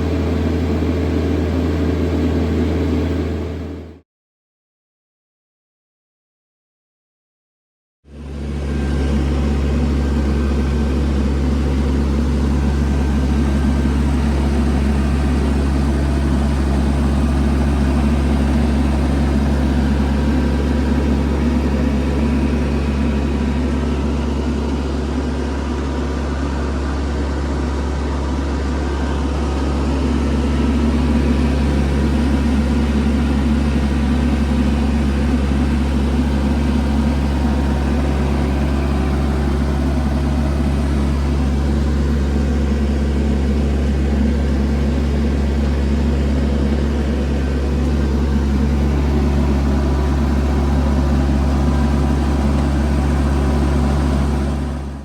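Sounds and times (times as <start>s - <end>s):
tractor diesel engine running: 0.0s - 4.0s, 8.1s - 55.0s.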